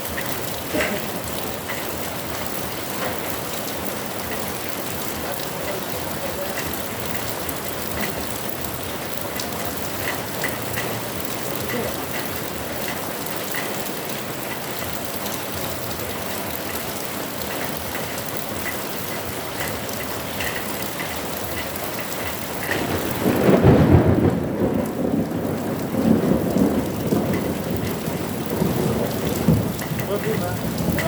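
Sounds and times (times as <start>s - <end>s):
heavy rain: 0.0s - 31.0s
thunder rumbling: 0.0s - 31.0s.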